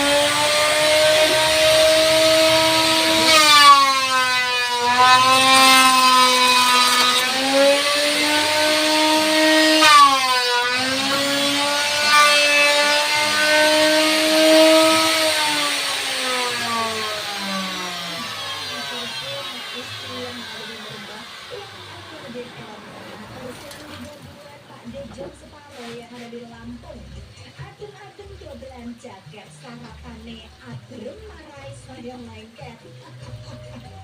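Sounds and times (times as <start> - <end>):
power tool cutting wood: 0.0 - 27.4.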